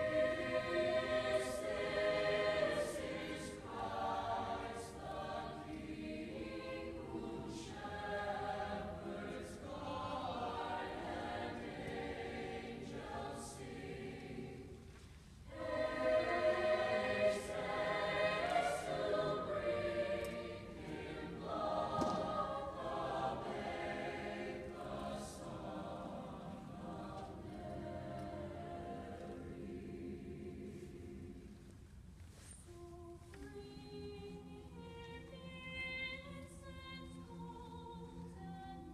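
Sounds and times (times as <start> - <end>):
choir singing sustained chords: 0.0 - 31.9.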